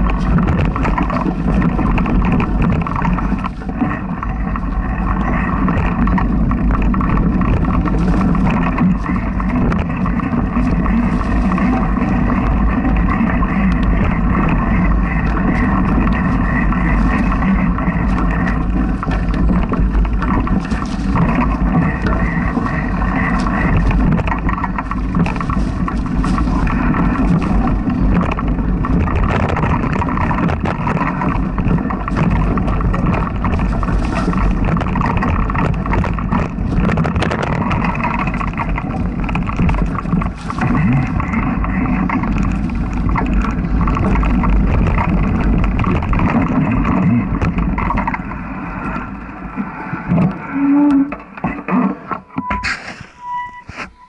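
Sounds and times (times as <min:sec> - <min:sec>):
bike rattles and clicks: 0:00.0 - 0:54.0
bike tyres rumbling on dirt trail: 0:00.0 - 0:54.0.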